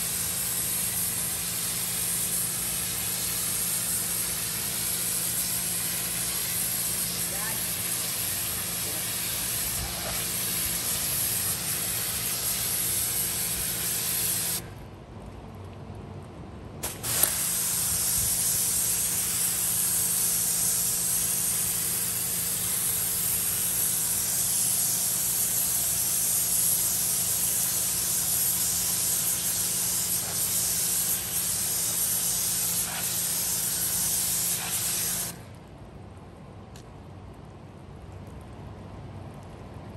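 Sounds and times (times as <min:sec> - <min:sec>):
pressure washer spraying: 0:00.0 - 0:14.7, 0:16.8 - 0:35.4.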